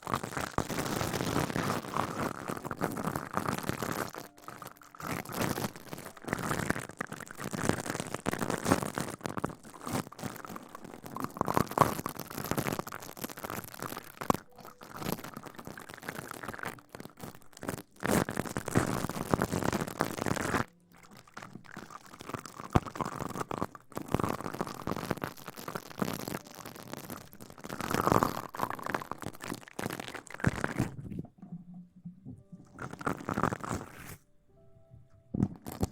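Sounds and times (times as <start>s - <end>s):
crinkly rustling and scratching: 0.0s - 34.3s, 35.4s - 35.9s.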